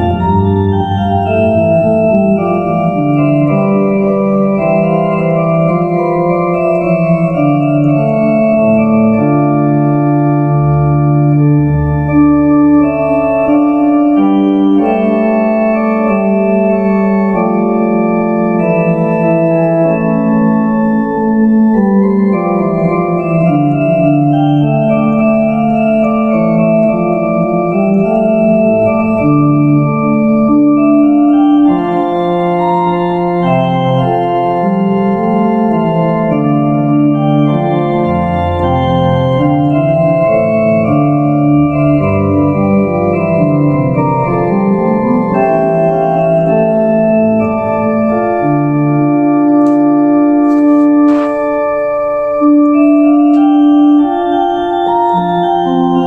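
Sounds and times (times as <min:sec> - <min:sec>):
organ playing baroque music: 0:00.0 - 0:56.0.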